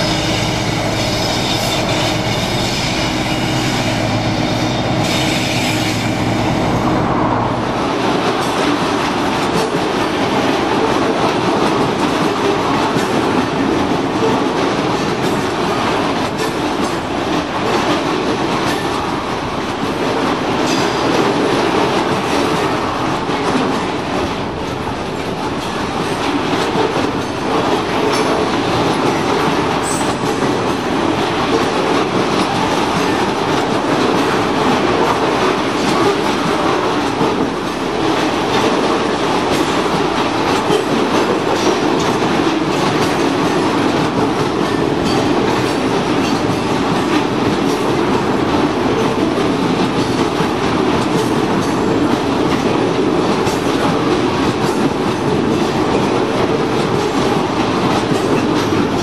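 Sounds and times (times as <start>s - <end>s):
train wheels rolling on rails: 0.0s - 59.0s
wheels clicking over rail joints: 8.2s - 59.0s.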